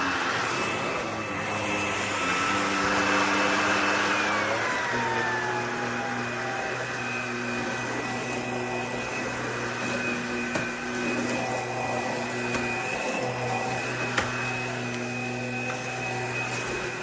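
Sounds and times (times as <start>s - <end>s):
stick vacuum whining motor: 0.0s - 17.0s.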